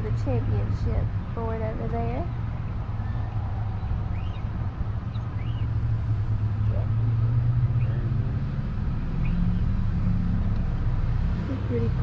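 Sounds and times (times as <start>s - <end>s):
car engine hum and road noise: 0.0s - 12.0s.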